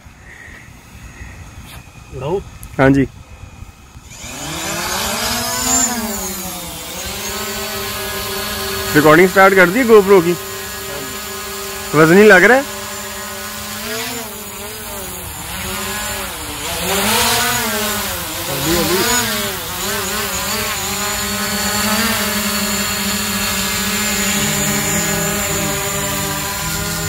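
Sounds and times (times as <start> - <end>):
drone propellers whining: 0.0 - 27.0.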